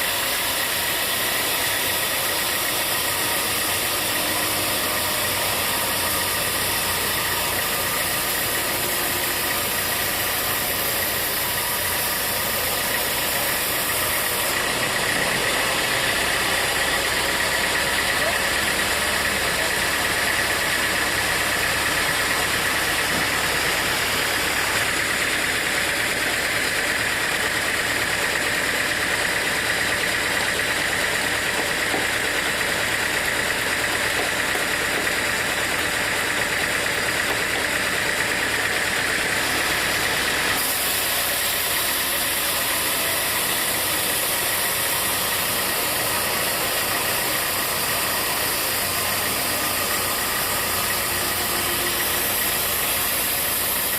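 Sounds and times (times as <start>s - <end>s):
high steady machine whine: 0.0s - 53.9s
sawmill machinery din: 0.0s - 53.9s.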